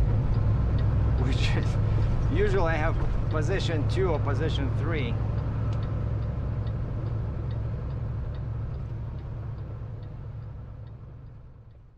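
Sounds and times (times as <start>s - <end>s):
light ticking: 0.0s - 11.9s
truck rumble inside cab: 0.0s - 11.9s.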